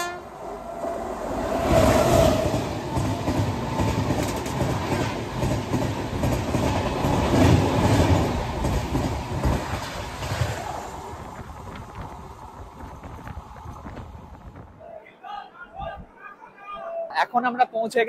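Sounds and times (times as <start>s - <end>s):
passenger train passing: 0.0s - 16.8s.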